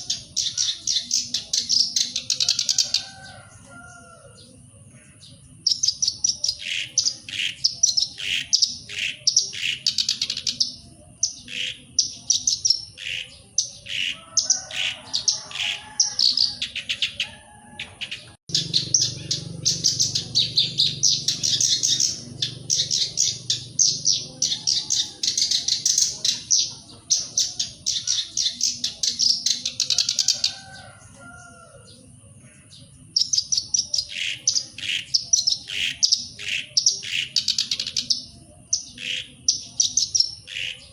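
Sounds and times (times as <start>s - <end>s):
warbler singing chattering notes: 0.0s - 3.0s, 4.4s - 17.4s, 18.0s - 40.9s.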